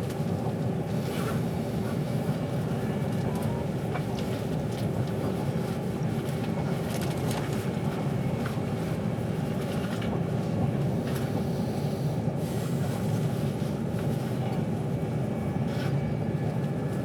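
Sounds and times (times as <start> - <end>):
train rumbling inside carriage: 0.0 - 17.0.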